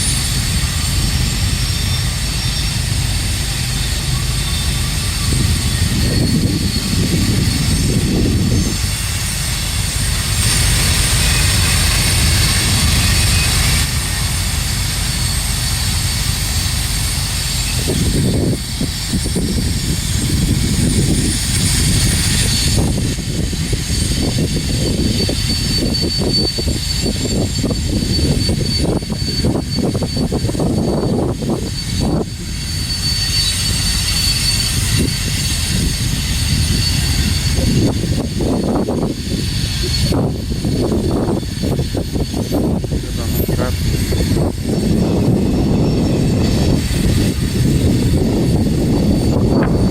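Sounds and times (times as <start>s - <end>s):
freight train rumbling: 0.0s - 49.9s
high wheel squeal: 0.0s - 49.9s.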